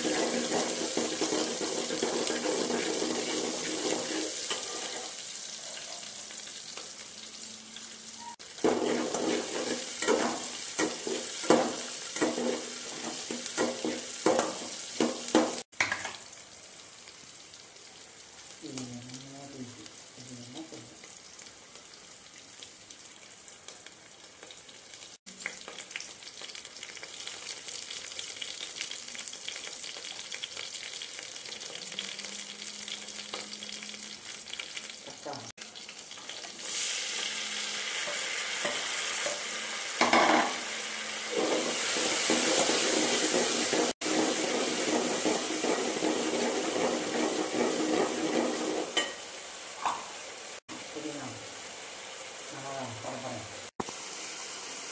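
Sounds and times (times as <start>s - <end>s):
onions sizzling in hot oil: 0.0s - 54.9s.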